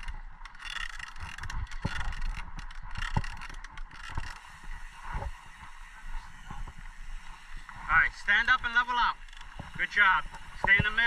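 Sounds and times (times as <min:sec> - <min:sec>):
bike rattling over bumps: 0:00.0 - 0:11.0
bike tyres on dirt: 0:00.0 - 0:11.0.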